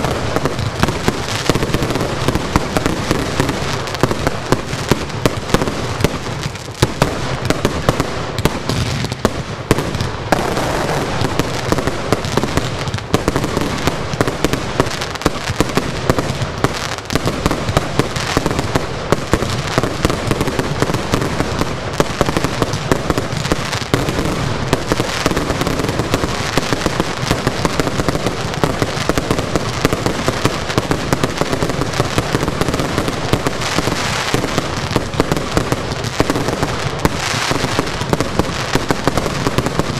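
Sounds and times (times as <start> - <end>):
crackling fireworks din: 0.0 - 39.9
fireworks bursting: 0.0 - 39.9.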